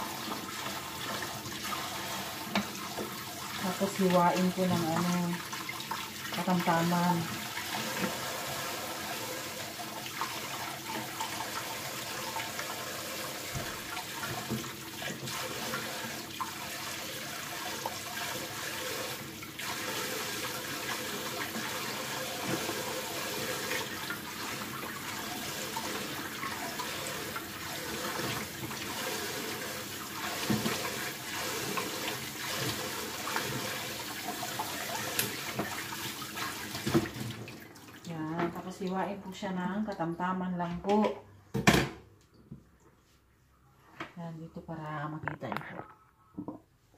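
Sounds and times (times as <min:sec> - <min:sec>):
faucet running into metal bowl: 0:00.0 - 0:37.6.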